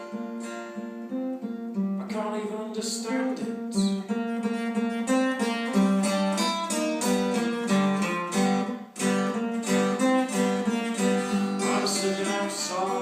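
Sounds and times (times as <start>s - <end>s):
guitar playing chords: 0.0s - 13.0s.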